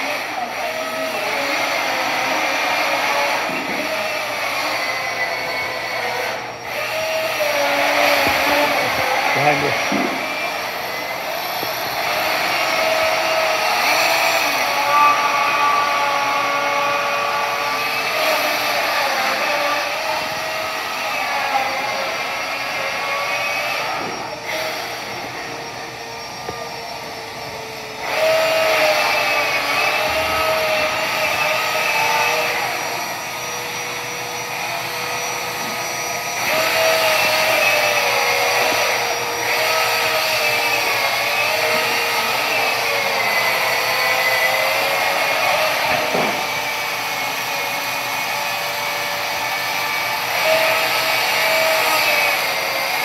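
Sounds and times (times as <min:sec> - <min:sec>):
rotary tool whining carving ice: 0:00.0 - 0:53.0.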